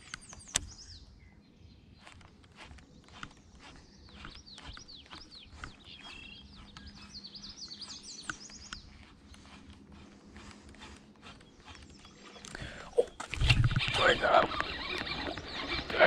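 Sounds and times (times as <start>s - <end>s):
wild birds chirping: 0.0s - 16.0s.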